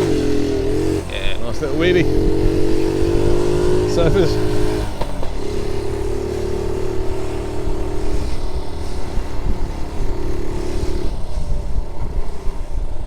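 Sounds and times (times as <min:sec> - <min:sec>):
small motorbike engine running: 0:00.0 - 0:13.0
wind rumble on microphone: 0:00.0 - 0:13.0.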